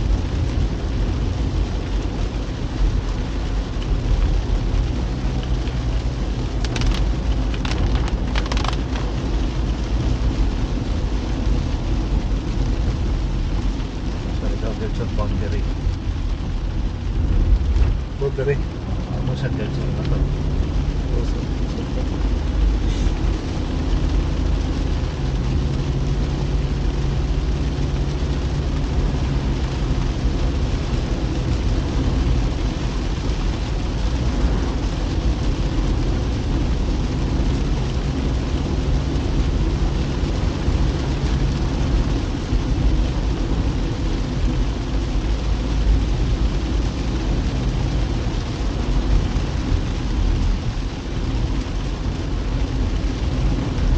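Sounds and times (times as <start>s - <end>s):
car engine and tyre rumble: 0.0s - 53.9s
rain and water spray hiss: 0.0s - 53.9s.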